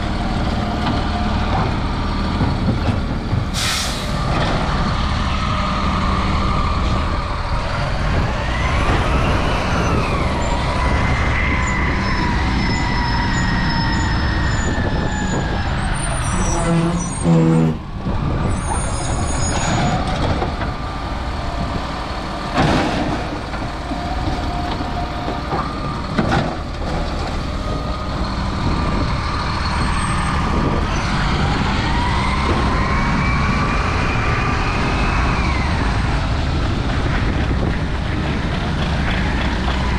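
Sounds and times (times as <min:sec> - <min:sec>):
refuse truck diesel engine: 0:00.0 - 0:39.9.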